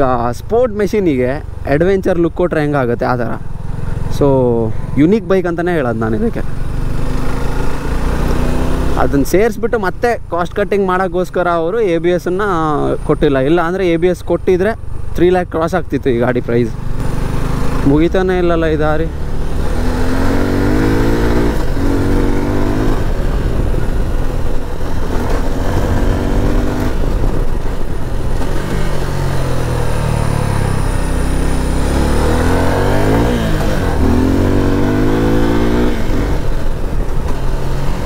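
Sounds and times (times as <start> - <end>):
motorcycle engine revving: 0.9 - 15.2, 16.0 - 38.0.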